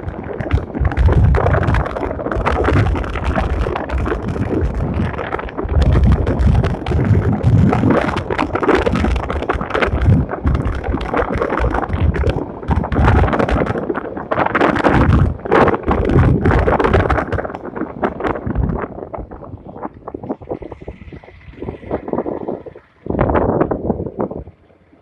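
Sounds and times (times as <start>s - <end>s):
crackles and scrapes: 0.0s - 24.5s
wind buffeting microphone: 0.0s - 25.0s.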